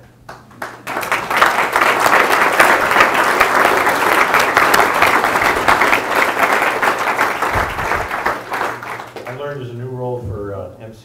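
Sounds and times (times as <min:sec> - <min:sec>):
audience applauding: 0:00.3 - 0:09.6.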